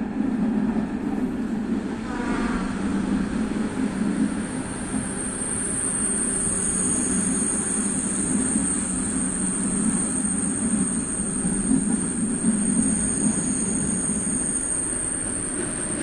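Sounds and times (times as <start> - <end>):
train carriage rumbling on track: 0.0 - 16.0.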